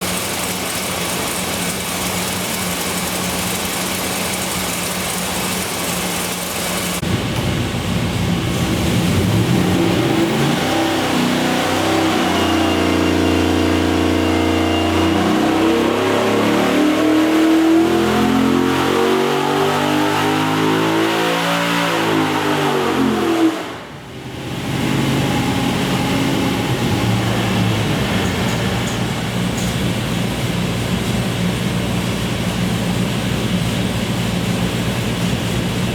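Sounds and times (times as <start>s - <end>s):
car engine revving on dyno: 0.1s - 35.9s.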